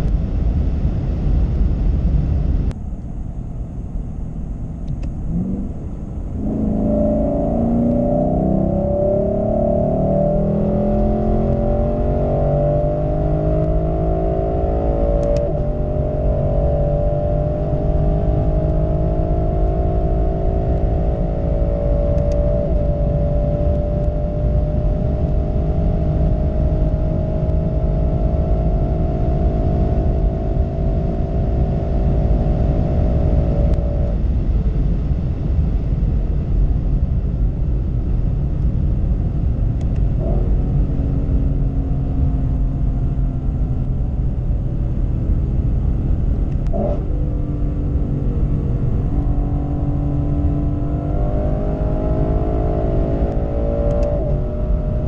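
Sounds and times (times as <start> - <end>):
car engine at full throttle: 0.0 - 55.0
wind and tyre rush: 0.0 - 55.0.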